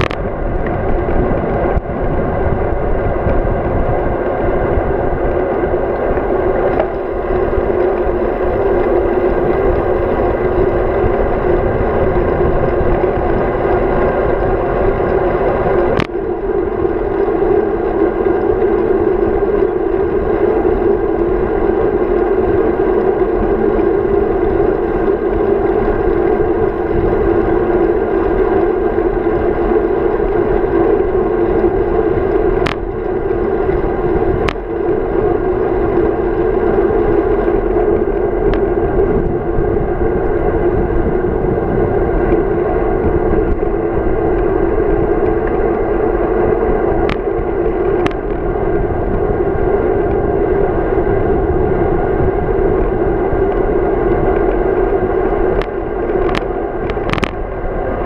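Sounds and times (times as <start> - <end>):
bicycle tyres rolling on asphalt: 0.0 - 58.0
muffled wind rush: 0.0 - 58.0.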